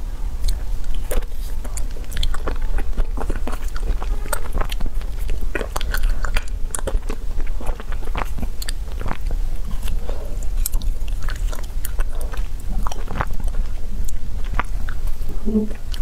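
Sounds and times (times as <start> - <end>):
chewing ice cream: 0.4 - 16.0.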